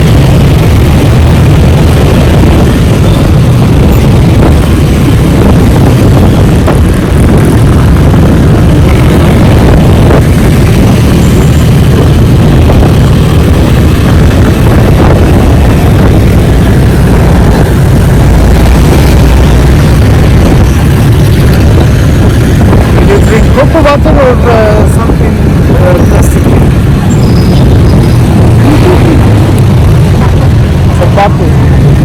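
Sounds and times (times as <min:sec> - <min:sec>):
road noise: 0:00.0 - 0:32.0
wind on the microphone: 0:00.0 - 0:32.0.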